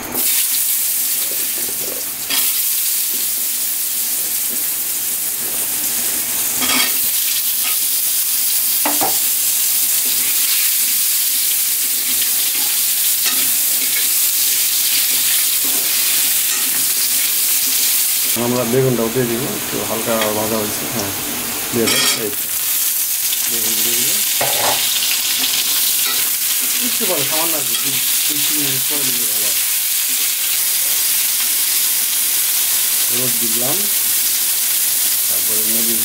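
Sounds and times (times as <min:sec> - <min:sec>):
potatoes sizzling in hot oil: 0:00.0 - 0:36.0.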